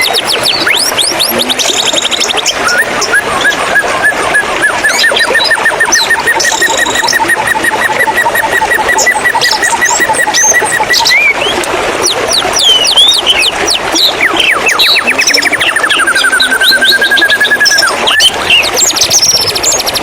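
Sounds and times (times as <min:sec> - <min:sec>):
bird chirping and whistling: 0:00.0 - 0:20.0
running water: 0:00.0 - 0:20.0.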